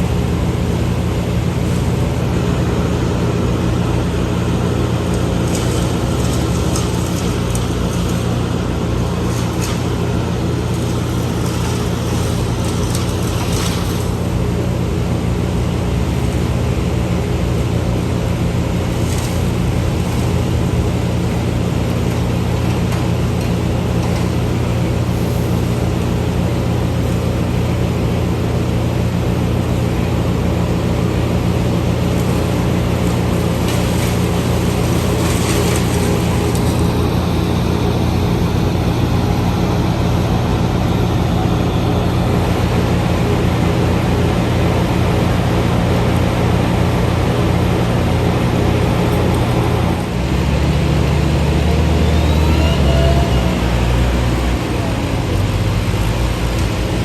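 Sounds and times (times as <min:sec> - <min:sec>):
large engine humming: 0:00.0 - 0:57.0.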